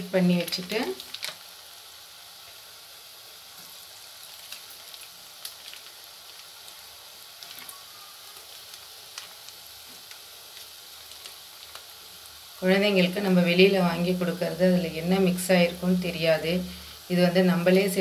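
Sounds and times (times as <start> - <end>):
oil crackling: 0.0 - 1.9, 3.4 - 18.0
dough deep-frying in hot oil: 0.0 - 18.0.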